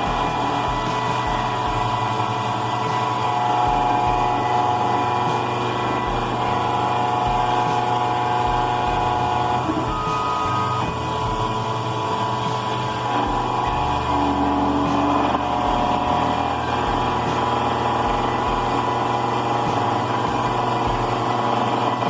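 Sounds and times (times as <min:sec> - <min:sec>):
key-cutting machine motor whine: 0:00.0 - 0:22.0
low repeating pulse: 0:00.0 - 0:22.0.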